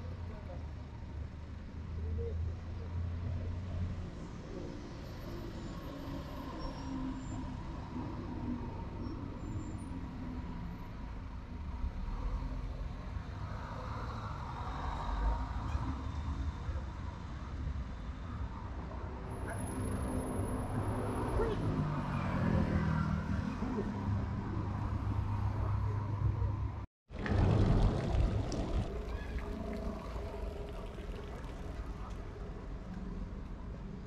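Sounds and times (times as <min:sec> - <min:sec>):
traffic rumble: 0:06.7 - 0:34.0.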